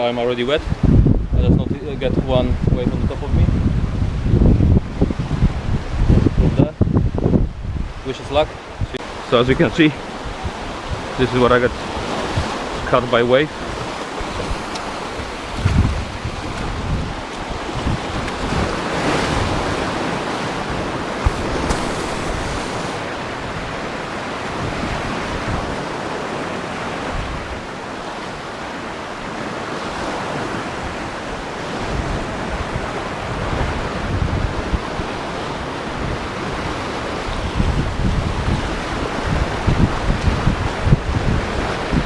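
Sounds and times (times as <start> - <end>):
wind buffeting microphone: 0.0 - 42.0
waves breaking on rocks: 8.0 - 42.0.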